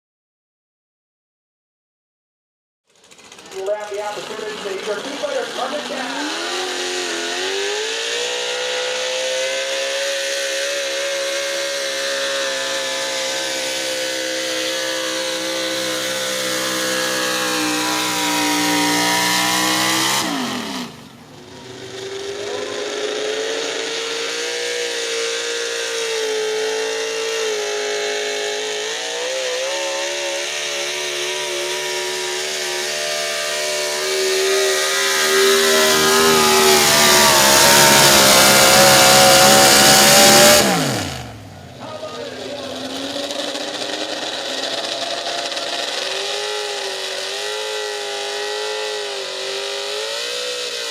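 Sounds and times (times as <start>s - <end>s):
truck engine howling at full throttle: 2.9s - 50.9s.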